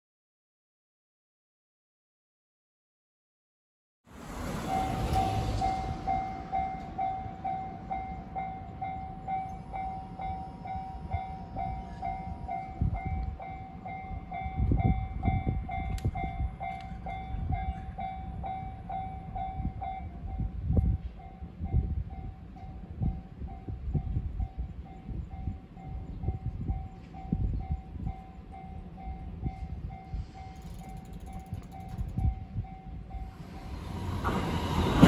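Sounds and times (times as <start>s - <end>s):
level-crossing warning bell ringing: 4.4s - 35.0s.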